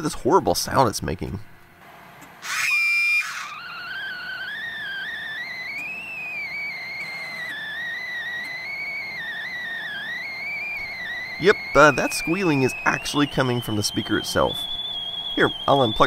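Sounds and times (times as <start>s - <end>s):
computer speaker squealing: 2.4s - 16.0s.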